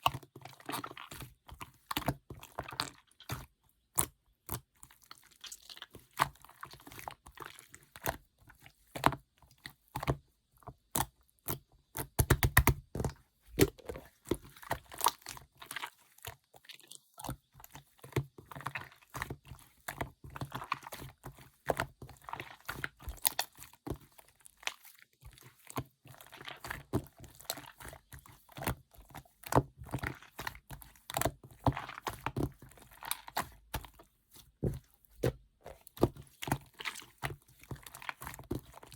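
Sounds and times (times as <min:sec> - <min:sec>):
hands squishing slime: 0:00.0 - 0:10.2, 0:10.8 - 0:38.9.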